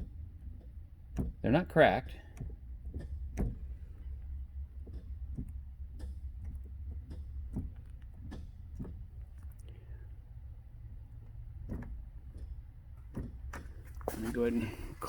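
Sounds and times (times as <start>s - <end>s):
car door hinges knocking: 0.0s - 15.0s
steady low hum: 0.0s - 15.0s.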